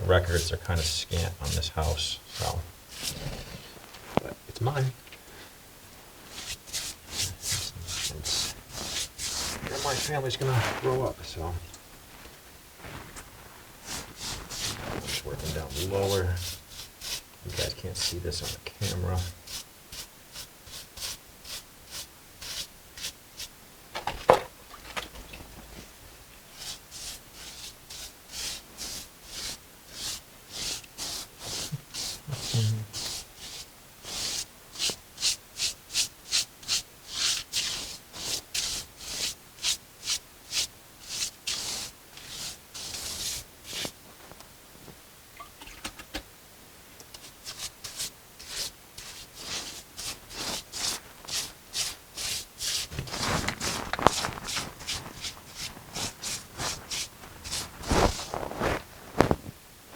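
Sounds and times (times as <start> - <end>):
brush scrubbing mortar: 0.0 - 5.0, 6.0 - 23.5, 26.5 - 44.0, 47.2 - 58.9.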